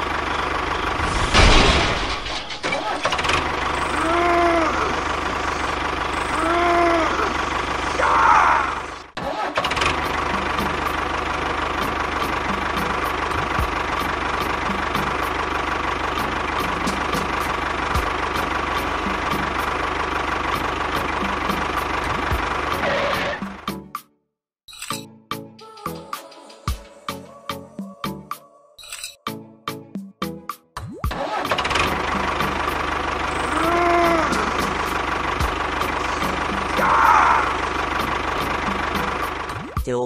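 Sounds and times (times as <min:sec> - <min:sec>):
tractor engine running: 0:00.0 - 0:23.9, 0:31.1 - 0:39.8.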